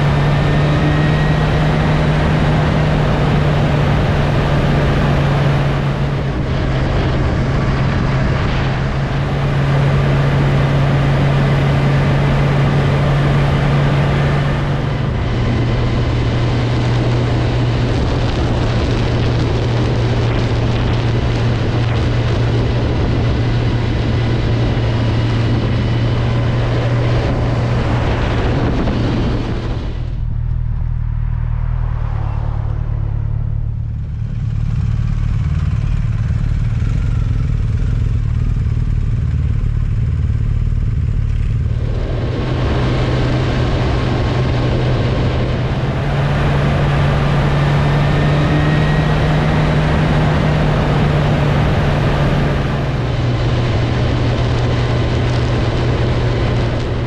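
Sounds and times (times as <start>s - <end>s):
motorcycle engine droning: 0.0s - 57.0s
wind and road noise: 0.0s - 57.0s.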